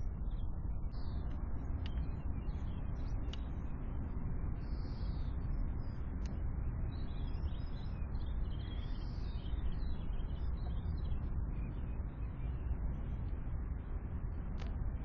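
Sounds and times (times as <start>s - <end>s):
low background rumble: 0.0s - 15.0s
songbirds chirping: 0.0s - 15.0s.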